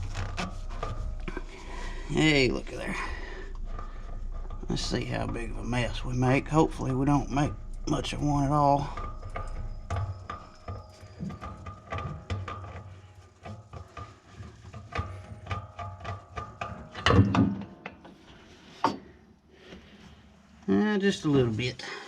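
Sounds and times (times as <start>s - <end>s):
metallic clicks and scrapes: 0.0s - 19.0s
metal clunk: 0.0s - 19.2s
faint steady hum: 0.0s - 22.0s.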